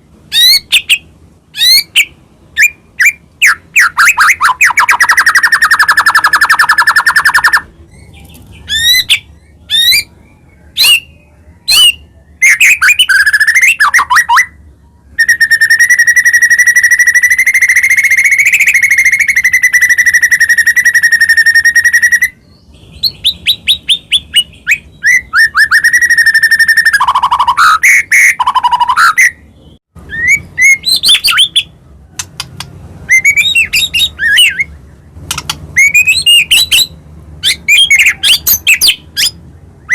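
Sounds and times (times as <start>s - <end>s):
bird singing with whistles and trills: 0.3s - 39.9s.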